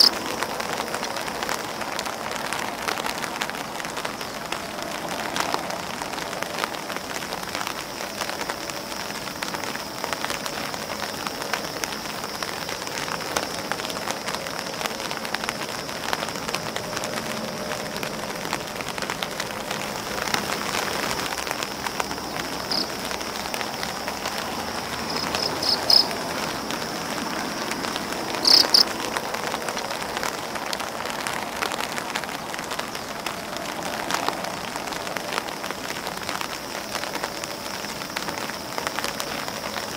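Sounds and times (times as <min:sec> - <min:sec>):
rain on umbrella and leaves: 0:00.0 - 0:39.9
raindrop ticks: 0:00.0 - 0:39.9.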